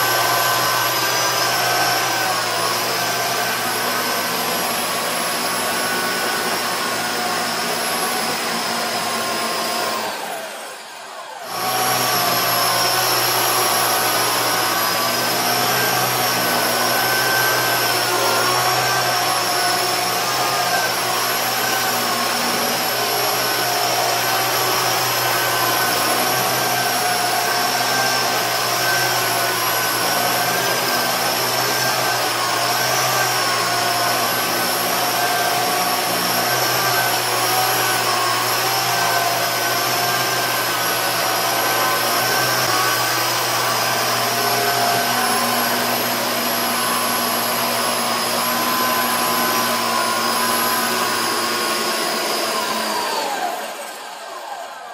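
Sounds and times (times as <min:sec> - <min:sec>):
rc helicopter rotors whining: 0:00.0 - 0:54.9.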